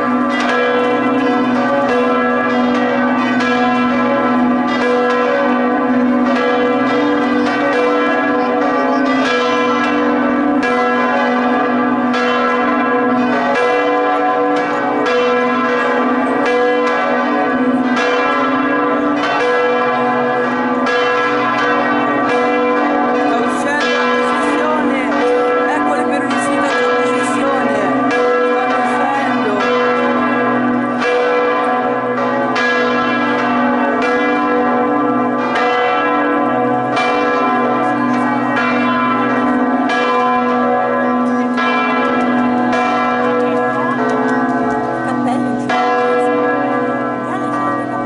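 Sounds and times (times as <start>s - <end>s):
large church bells ringing: 0.0s - 48.0s
low hum from bells: 0.0s - 48.0s.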